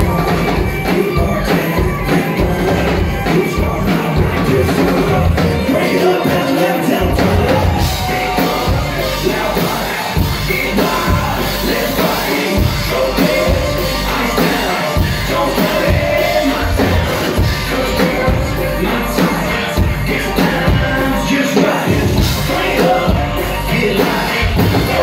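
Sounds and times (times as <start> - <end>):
crowd shouting: 0.0 - 25.0
drums: 0.0 - 25.0
person rapping: 0.0 - 25.0.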